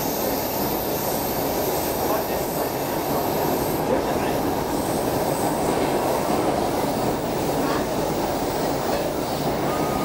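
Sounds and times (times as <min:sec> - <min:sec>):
subway train wheels rumbling: 0:00.0 - 0:10.0.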